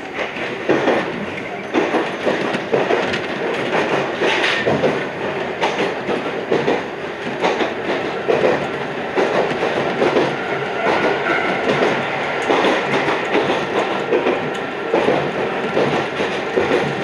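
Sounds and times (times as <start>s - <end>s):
train running rumble: 0.0s - 17.0s
train wheels clickety-clack: 0.0s - 17.0s.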